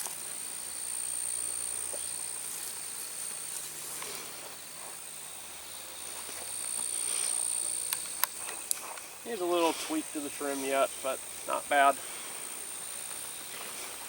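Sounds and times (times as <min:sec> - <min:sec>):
insects singing: 0:00.0 - 0:14.0.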